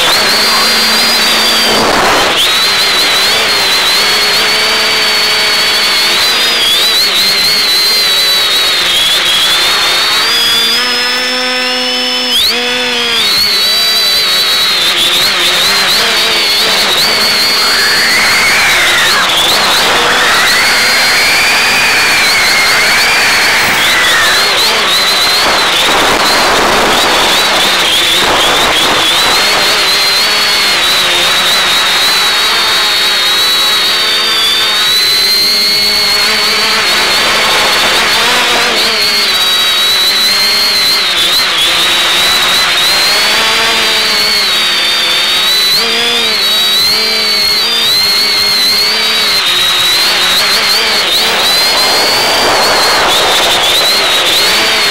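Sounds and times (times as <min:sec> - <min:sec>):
drone motors whining: 0:00.0 - 0:54.9
propellers buzzing: 0:00.0 - 0:54.9.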